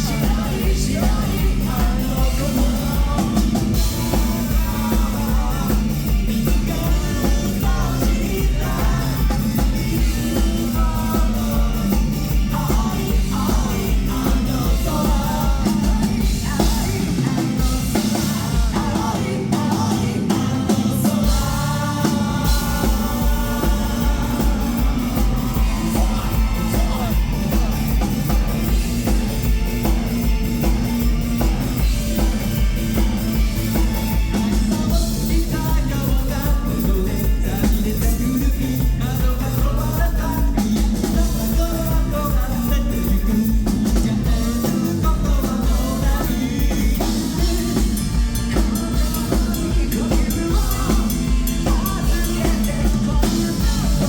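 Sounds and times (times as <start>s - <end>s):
drum kit beat: 0.0s - 54.0s
lead singer singing: 0.0s - 54.0s
live rock band playing: 0.0s - 54.0s.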